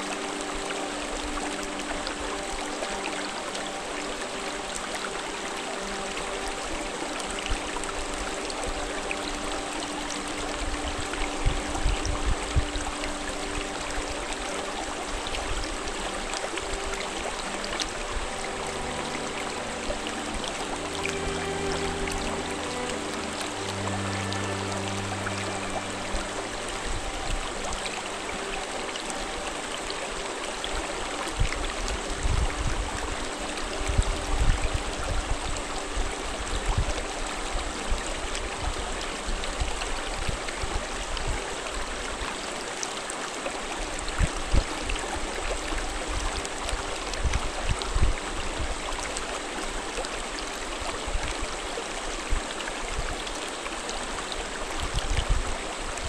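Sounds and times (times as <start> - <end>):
stream splashing over rocks: 0.0 - 56.0.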